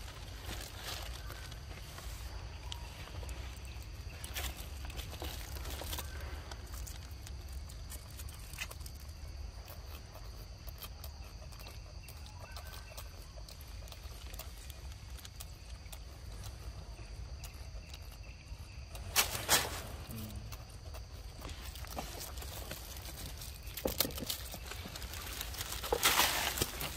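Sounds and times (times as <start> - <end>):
monkey chewing fruit: 0.0 - 26.9.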